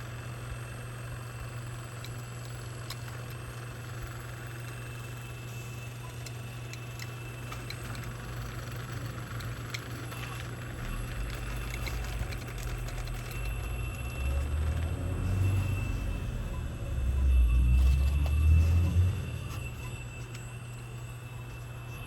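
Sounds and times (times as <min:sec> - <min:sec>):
model excavator low hum: 0:00.0 - 0:22.0.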